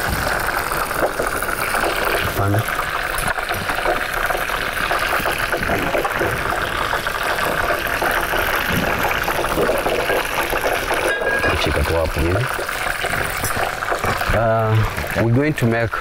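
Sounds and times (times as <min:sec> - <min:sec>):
water boiling in a pan: 0:00.0 - 0:16.0.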